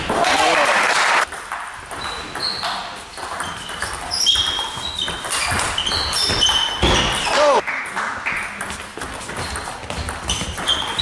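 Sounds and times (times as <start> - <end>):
table tennis ball pings: 1.2 - 11.0.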